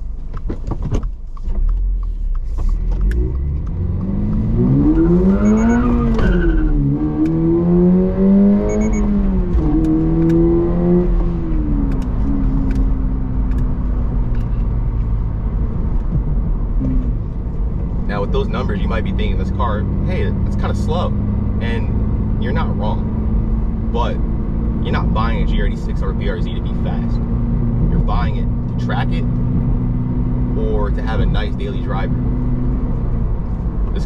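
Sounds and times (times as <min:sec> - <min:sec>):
car engine accelerating hard: 0:01.4 - 0:34.0.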